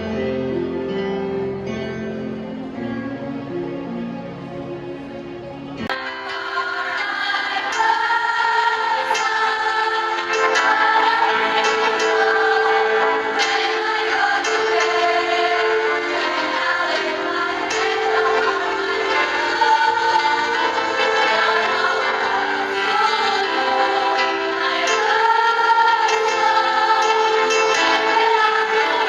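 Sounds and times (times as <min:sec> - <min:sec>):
choir singing: 0:03.5 - 0:29.0.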